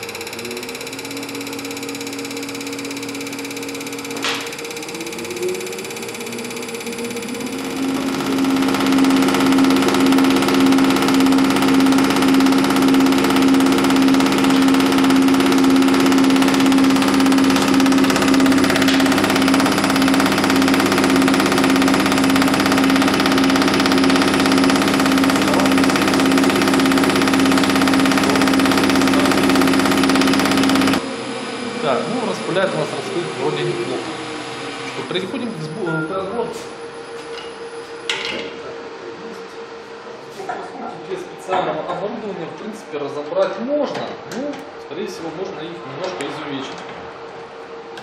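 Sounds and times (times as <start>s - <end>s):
test bench motor humming: 0.0s - 43.7s.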